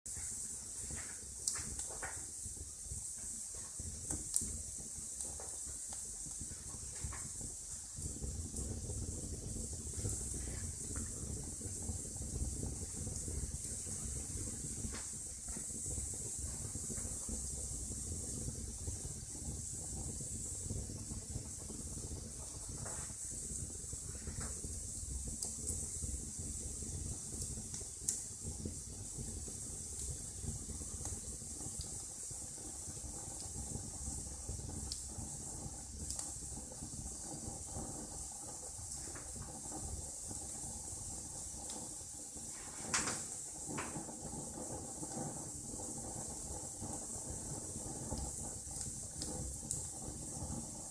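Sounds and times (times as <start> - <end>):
steady hiss: 0.1 - 50.9
wood fire crackling: 0.1 - 50.9.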